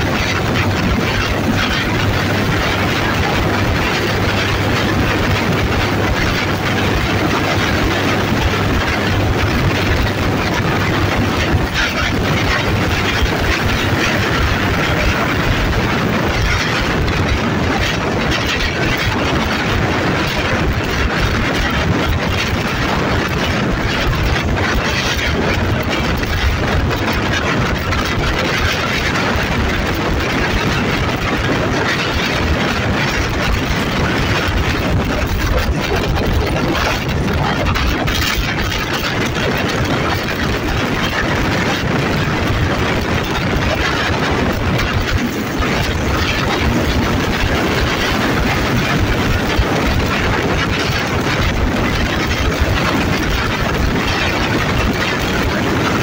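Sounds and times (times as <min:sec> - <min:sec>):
diesel engine running: 0:00.0 - 0:56.0
wheels on track: 0:00.0 - 0:56.0.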